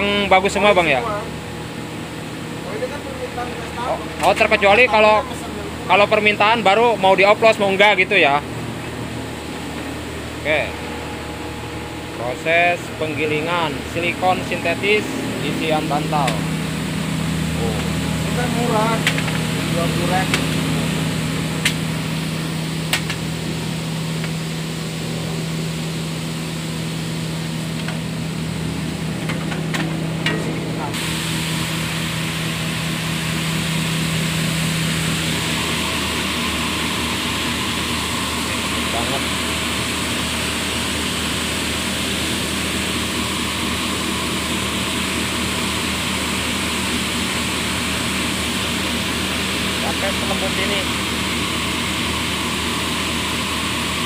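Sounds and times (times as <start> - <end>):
machine motor hum: 0.0 - 54.0.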